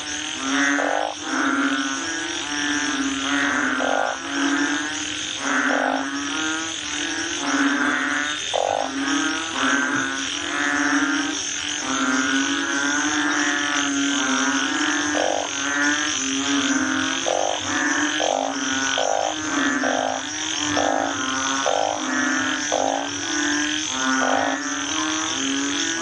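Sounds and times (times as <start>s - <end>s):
frogs croaking in chorus: 0.0s - 26.0s.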